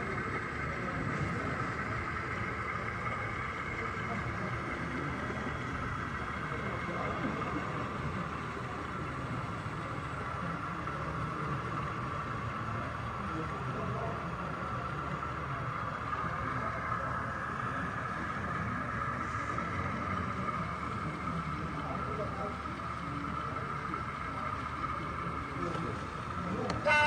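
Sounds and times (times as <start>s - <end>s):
continuous whine: 0.0s - 27.0s
crowd chatter: 0.0s - 27.0s
steady hum: 0.0s - 27.0s.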